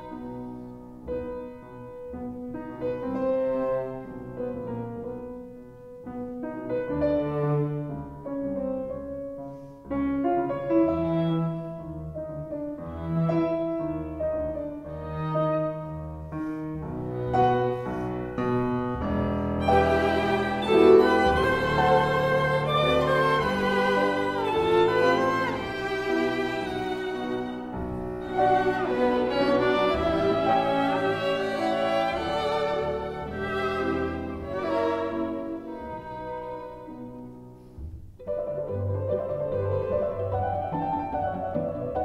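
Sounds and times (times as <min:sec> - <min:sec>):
instrumental music with held notes: 0:00.0 - 0:42.0.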